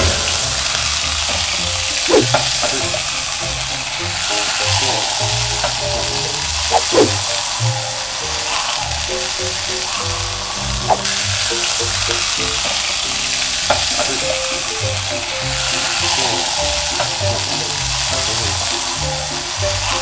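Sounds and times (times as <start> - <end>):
soft background music: 0.0 - 20.0
fish sizzling in hot oil: 0.4 - 19.6.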